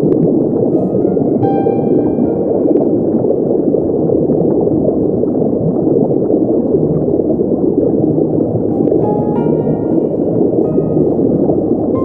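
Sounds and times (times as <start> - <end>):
muffled underwater water rush: 0.0 - 12.0.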